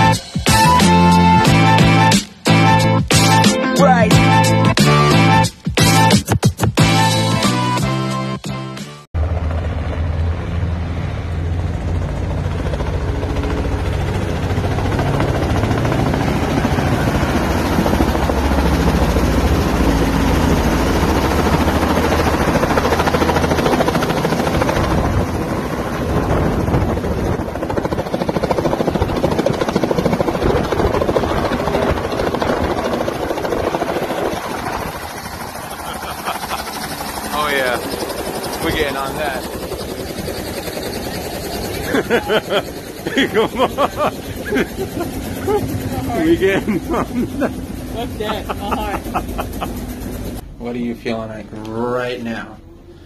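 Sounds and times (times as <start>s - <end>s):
helicopter engine noise: 0.0s - 50.7s
helicopter rotor beating: 0.0s - 52.5s.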